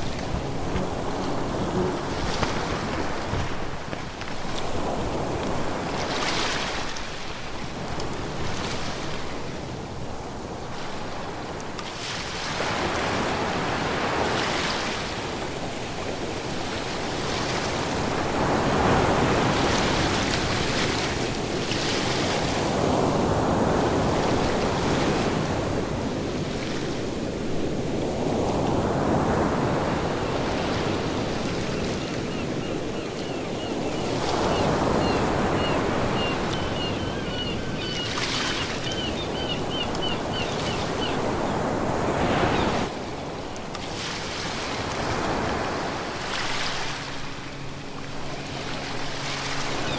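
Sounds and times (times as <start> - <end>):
ocean waves breaking: 0.0 - 11.4, 12.1 - 49.9.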